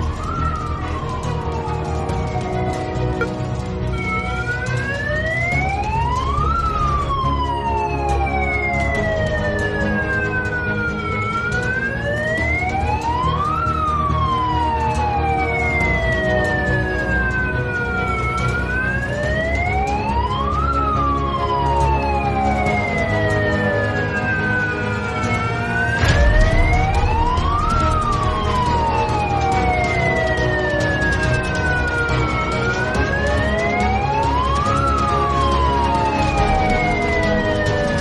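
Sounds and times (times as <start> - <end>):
wailing siren: 0.0 - 38.0.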